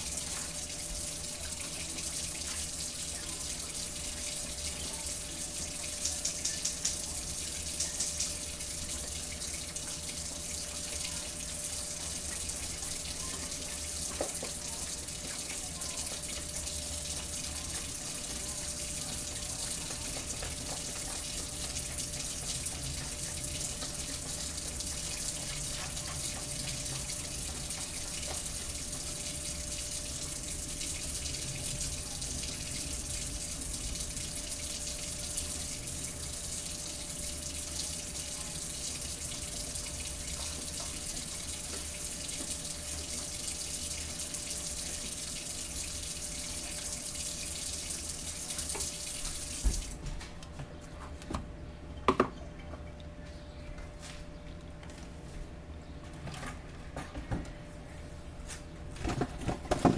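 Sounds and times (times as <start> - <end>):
kitchen tap running: 0.0 - 50.2, 59.0 - 59.9.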